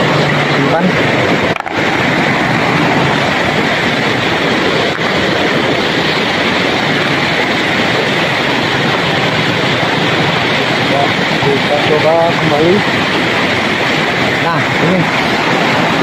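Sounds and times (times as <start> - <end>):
river flowing over rocks: 0.0 - 16.0.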